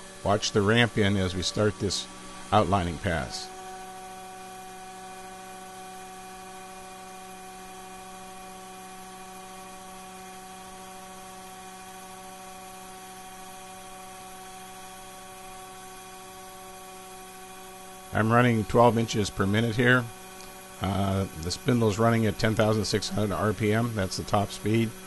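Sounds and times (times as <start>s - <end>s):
air-mist coolant hiss: 0.0s - 25.0s
mill spindle whining: 0.0s - 25.0s.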